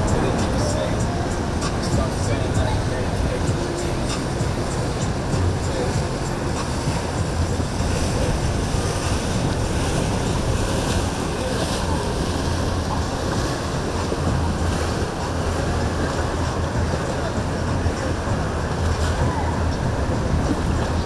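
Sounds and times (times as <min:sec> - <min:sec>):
low rumble of boat engines: 0:00.0 - 0:21.0
surf: 0:00.0 - 0:21.0
wind buffeting microphone: 0:00.0 - 0:21.0.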